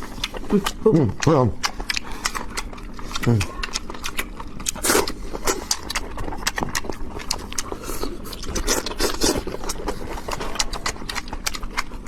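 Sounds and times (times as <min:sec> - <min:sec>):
wet chewing: 0:00.0 - 0:12.0
slurping: 0:01.8 - 0:11.8.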